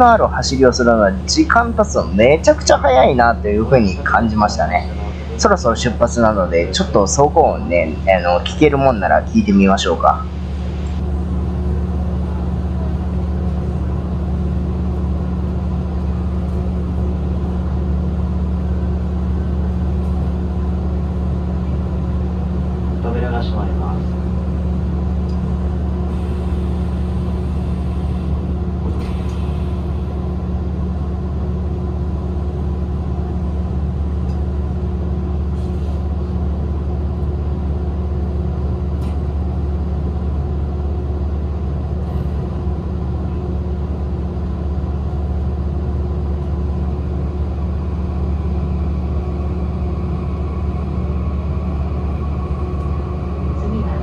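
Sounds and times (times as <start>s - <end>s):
train wheels and traction rumble: 0.0s - 54.0s.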